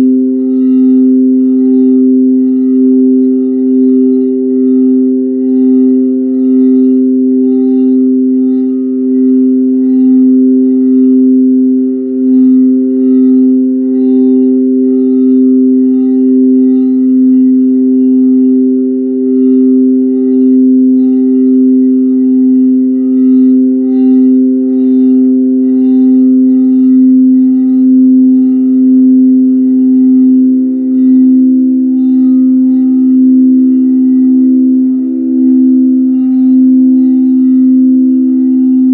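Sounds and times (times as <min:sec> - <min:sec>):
singing bowl ringing drone: 0:00.0 - 0:38.9.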